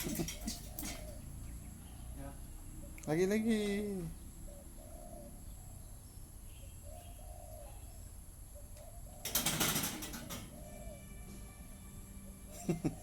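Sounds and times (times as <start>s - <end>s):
bird cooing: 0.0s - 2.0s, 2.8s - 11.3s.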